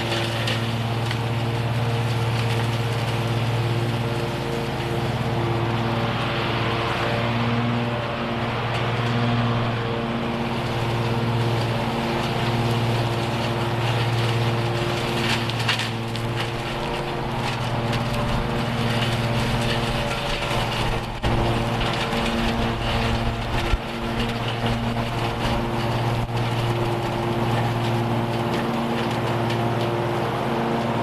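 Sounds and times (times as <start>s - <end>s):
crackling rush of leaves: 0.0s - 31.0s
lawn mower engine running: 0.0s - 31.0s.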